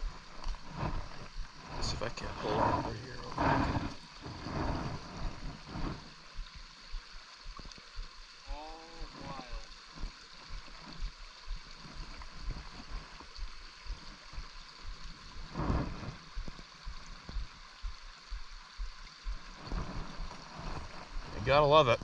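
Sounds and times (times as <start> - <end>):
stream running: 0.0 - 22.0.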